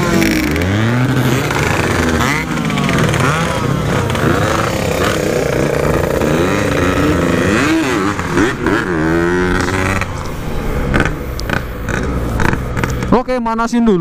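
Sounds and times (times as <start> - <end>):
motorcycle engine revving: 0.0 - 13.6.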